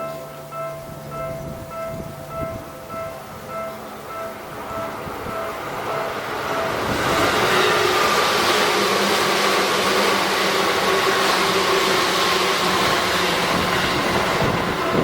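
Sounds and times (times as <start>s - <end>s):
electric train passing: 0.0s - 15.0s
level crossing warning bell: 0.0s - 15.0s.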